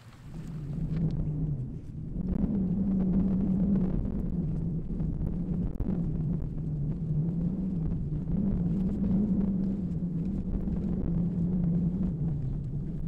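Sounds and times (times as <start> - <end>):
low humming drone: 0.0 - 13.0
steady low rumble: 0.0 - 13.0.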